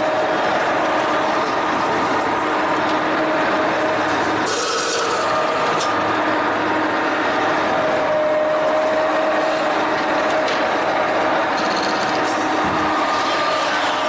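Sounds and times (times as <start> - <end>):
metalworking machine running: 0.0 - 14.0.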